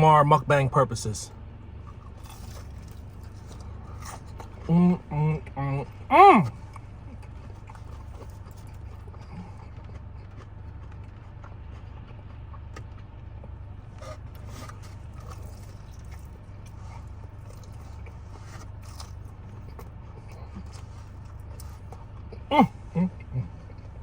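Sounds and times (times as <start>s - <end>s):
steady low hum: 0.0s - 24.0s
crunchy chewing: 1.8s - 24.0s.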